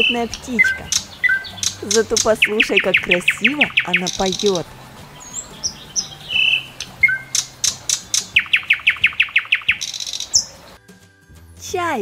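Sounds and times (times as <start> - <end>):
nightingale singing: 0.0 - 10.8.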